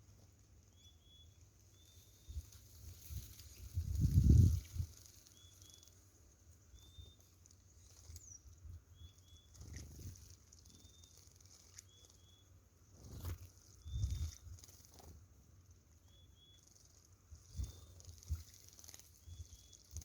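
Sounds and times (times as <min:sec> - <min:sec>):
small bird calling: 0:00.6 - 0:06.0, 0:06.7 - 0:15.2, 0:16.0 - 0:20.0.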